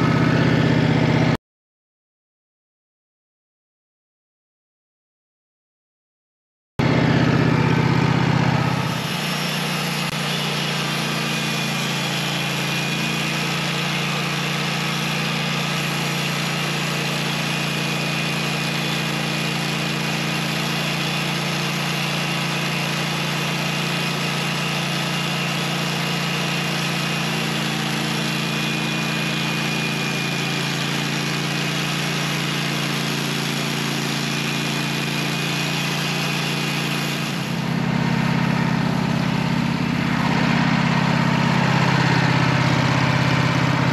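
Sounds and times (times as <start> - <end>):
sawmill engine running: 0.0 - 1.4, 6.8 - 43.9.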